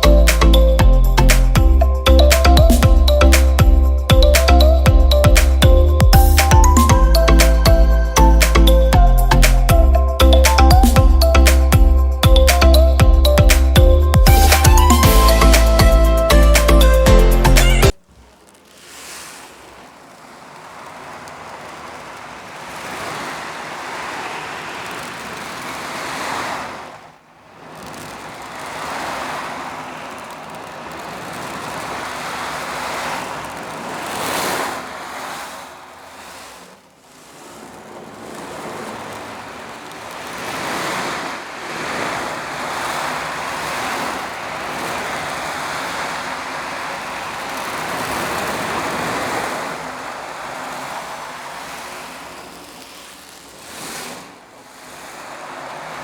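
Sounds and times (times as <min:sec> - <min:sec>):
imitation sea waves hiss: 0:00.0 - 0:56.0.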